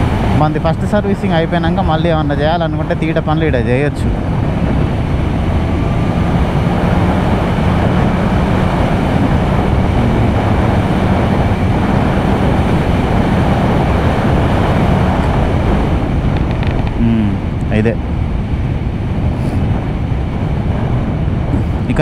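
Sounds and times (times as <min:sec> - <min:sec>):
wind rush on microphone: 0:00.0 - 0:22.0
motorcycle engine cruising: 0:01.2 - 0:22.0.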